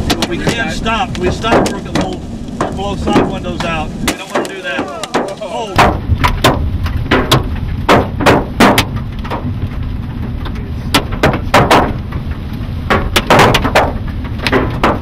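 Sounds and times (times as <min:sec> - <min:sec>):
hailstones banging on a vehicle: 0:00.0 - 0:15.0
road and wind rumble: 0:00.0 - 0:15.0.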